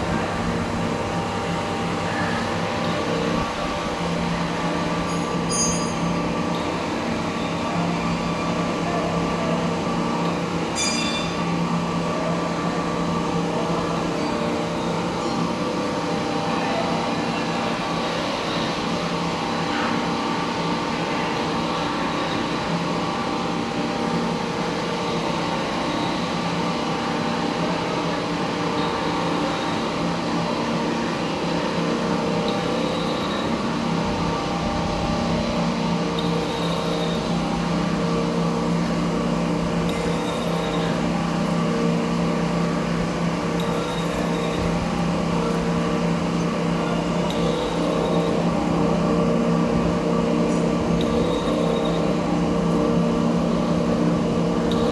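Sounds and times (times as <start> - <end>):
lathe humming: 0.0 - 54.9.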